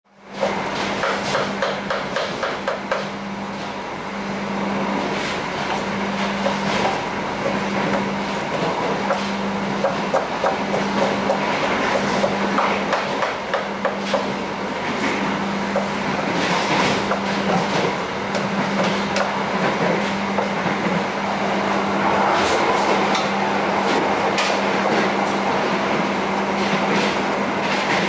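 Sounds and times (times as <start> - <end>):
train running noise: 0.1 - 28.0.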